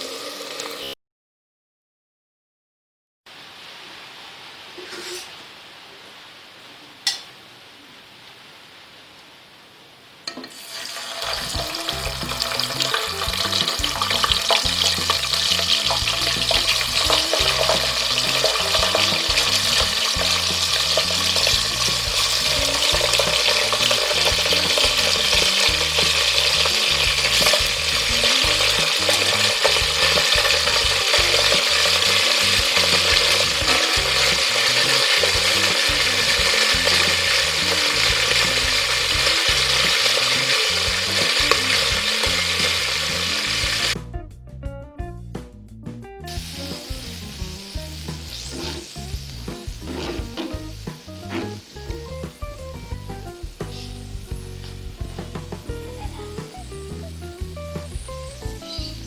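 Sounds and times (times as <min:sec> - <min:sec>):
food sizzling in hot oil: 0:00.0 - 0:01.0, 0:10.3 - 0:44.0, 0:46.2 - 0:59.0.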